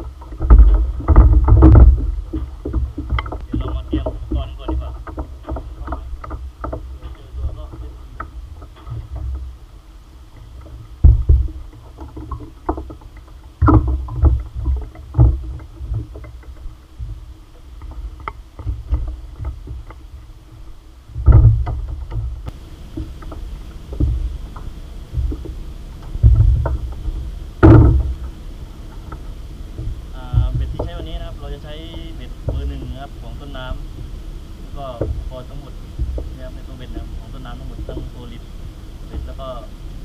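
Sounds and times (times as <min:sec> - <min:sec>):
boat hull knocking on waves: 0:00.0 - 0:40.0
faint steady hum: 0:00.0 - 0:40.0
wind buffeting microphone: 0:00.0 - 0:40.0.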